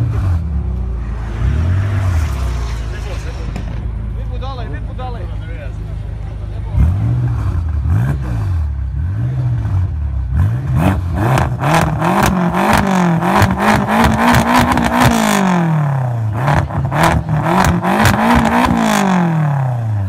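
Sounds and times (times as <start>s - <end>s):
car engine revving: 0.0s - 5.0s, 5.7s - 20.0s
exhaust crackling: 1.6s - 20.0s.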